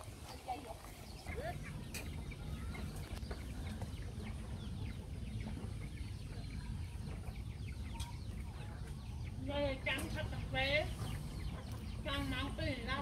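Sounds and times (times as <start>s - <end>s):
chickens clucking: 0.0s - 13.0s
steady low rumble: 0.0s - 13.0s.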